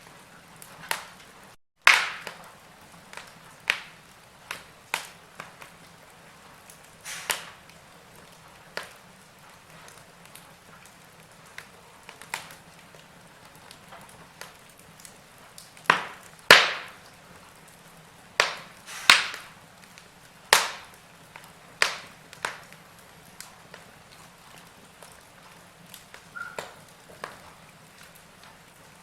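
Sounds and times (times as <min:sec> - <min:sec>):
logs crackling in fireplace: 0:00.0 - 0:29.0
soft hiss: 0:02.4 - 0:15.5, 0:16.3 - 0:29.0.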